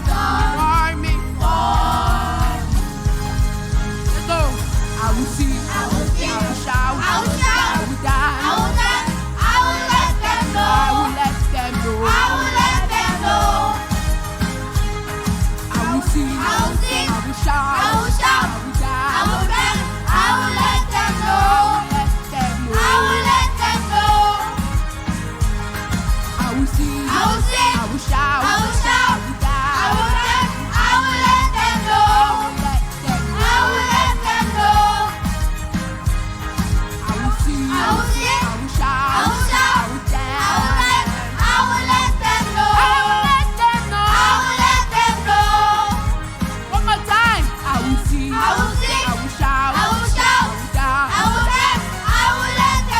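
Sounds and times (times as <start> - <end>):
band with bass and drums: 0.0 - 52.9
instrumental backing with beat: 0.0 - 52.9
people singing praise song: 0.0 - 52.9.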